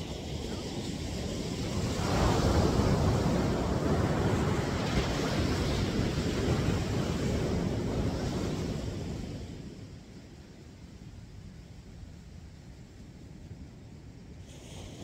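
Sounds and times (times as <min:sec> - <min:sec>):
ocean surf washing up a beach: 0:00.0 - 0:15.0
wind buffeting the microphone: 0:00.0 - 0:15.0.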